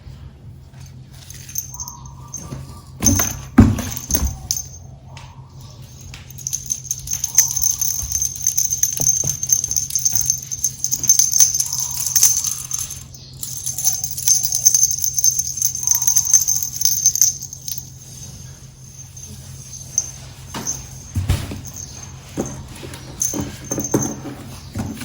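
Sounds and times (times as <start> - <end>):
small bell jingling: 0.8 - 4.9, 5.6 - 24.8.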